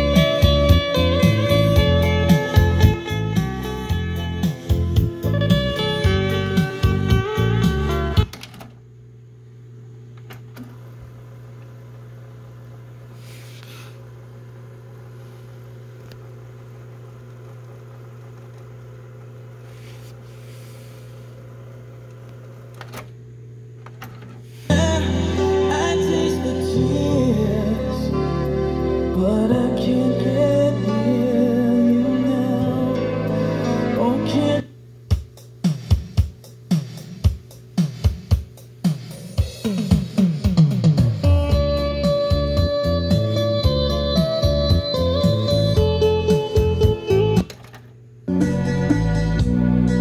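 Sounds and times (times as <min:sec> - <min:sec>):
tape hiss: 0:00.0 - 0:50.0.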